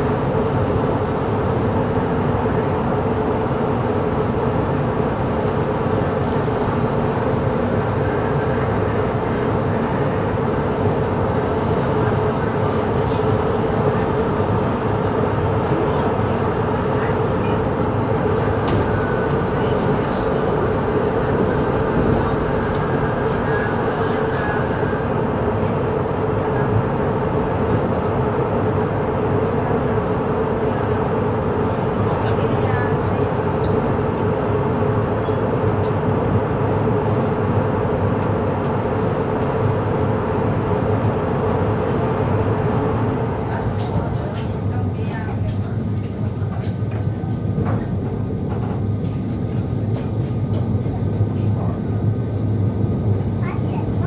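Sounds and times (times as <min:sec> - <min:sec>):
train interior rumble: 0:00.0 - 0:54.0.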